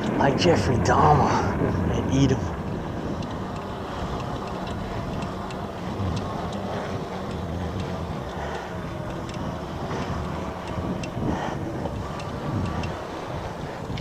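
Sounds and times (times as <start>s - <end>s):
wind noise on microphone: 0.0s - 14.0s
light ticks: 2.4s - 14.0s.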